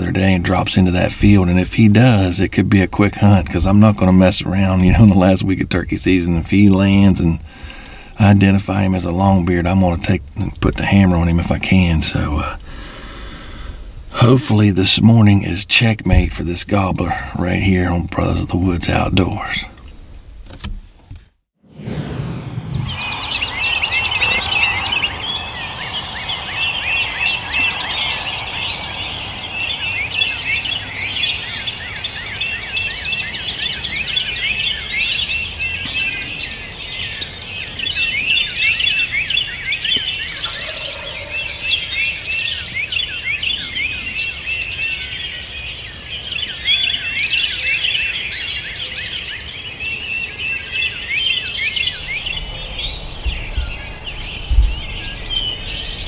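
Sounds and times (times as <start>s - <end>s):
songbirds chirping and trilling: 0.0s - 20.5s, 22.7s - 56.0s.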